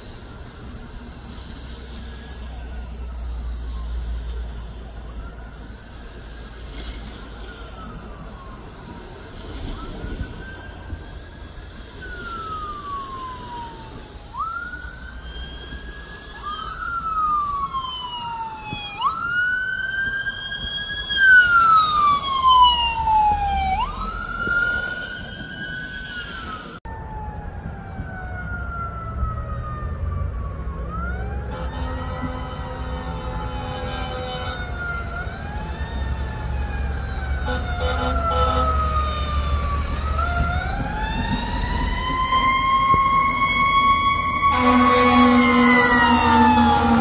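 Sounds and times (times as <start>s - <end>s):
police siren wailing: 0.0s - 47.0s
second siren rising: 0.0s - 47.0s.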